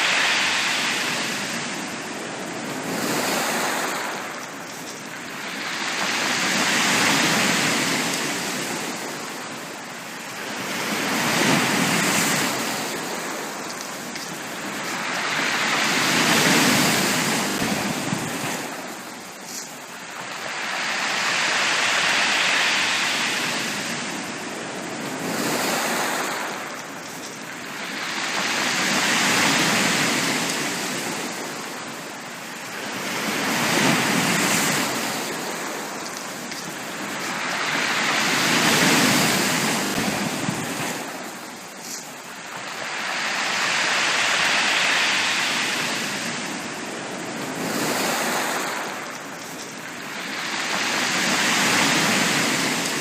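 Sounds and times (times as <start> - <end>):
sea waves breaking on beach: 0.0 - 53.0.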